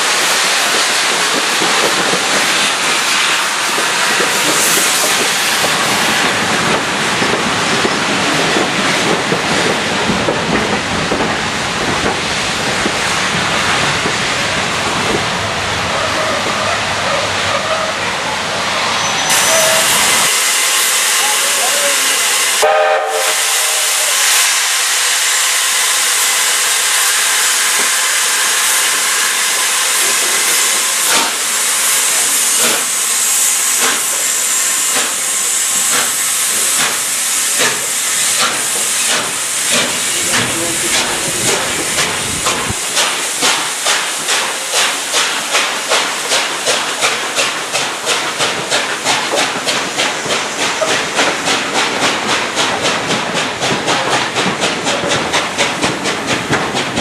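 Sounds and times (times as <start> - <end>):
steam locomotive exhaust beats: 0.0 - 18.1, 18.7 - 57.0
steam hissing: 0.0 - 57.0.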